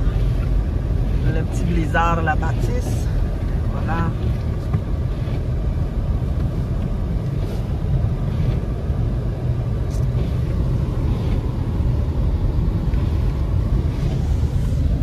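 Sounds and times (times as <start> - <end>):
car driving rumble from inside: 0.0 - 15.0.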